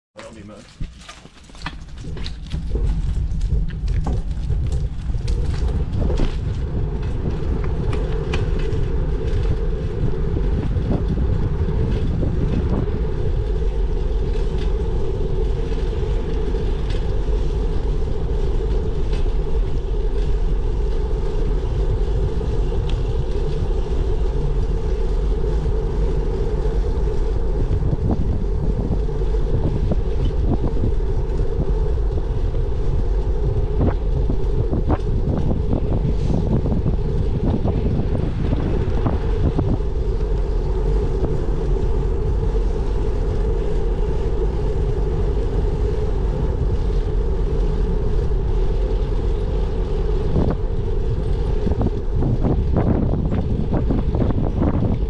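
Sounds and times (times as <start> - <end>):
bicycle rumble: 0.2 - 55.0
wind noise on microphone: 0.2 - 55.0.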